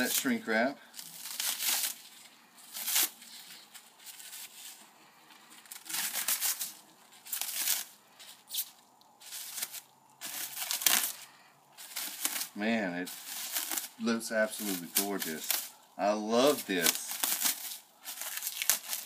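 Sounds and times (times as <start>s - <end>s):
shrink wrap crinkling and tearing: 0.0s - 19.0s.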